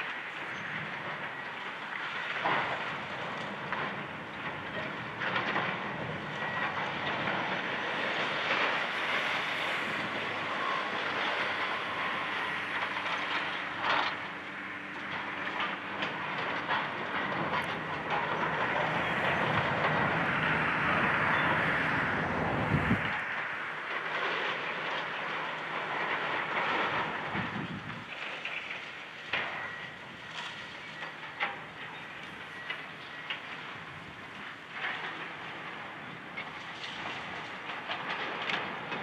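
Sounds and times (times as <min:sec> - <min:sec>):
breaking concrete and debris clatter: 0:00.0 - 0:21.8, 0:23.0 - 0:39.0
diesel engines running: 0:00.0 - 0:36.2.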